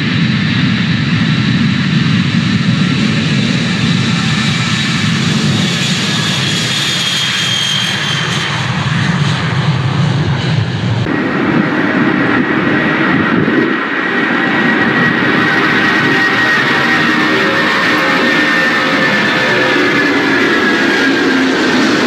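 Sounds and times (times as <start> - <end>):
jet engine steady high whine: 0.0 - 22.0
jet engines rumbling and whining: 0.0 - 22.0.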